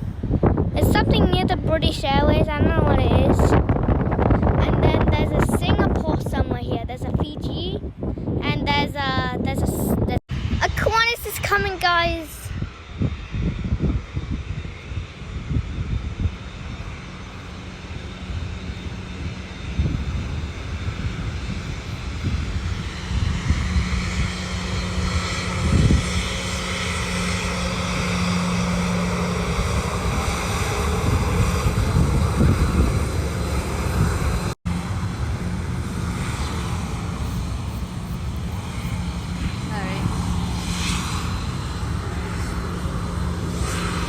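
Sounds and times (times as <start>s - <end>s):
airliner engines roaring: 0.0s - 44.0s.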